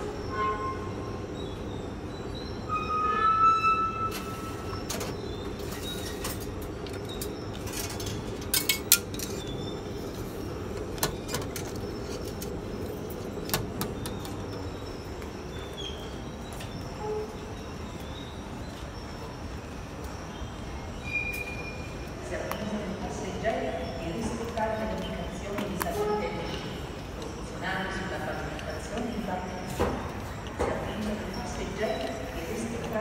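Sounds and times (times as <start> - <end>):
low rumble of metro station: 0.0 - 33.0.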